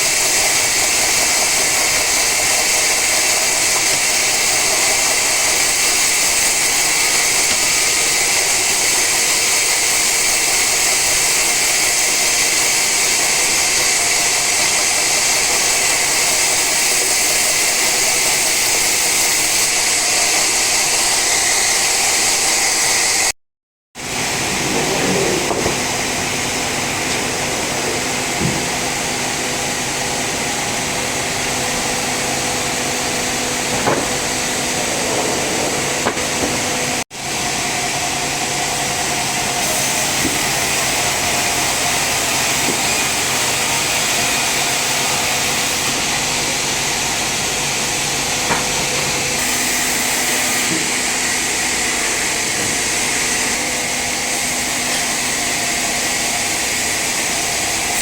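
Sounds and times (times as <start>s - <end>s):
sawmill saw cutting log: 0.0s - 23.3s, 24.0s - 58.0s.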